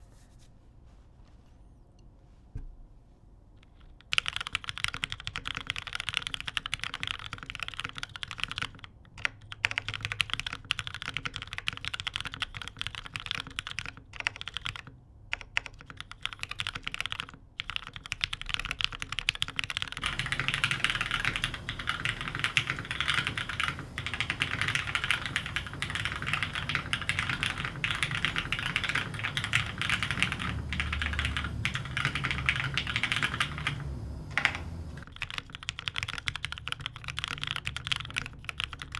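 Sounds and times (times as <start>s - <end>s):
mechanical keyboard typing: 4.0s - 38.9s.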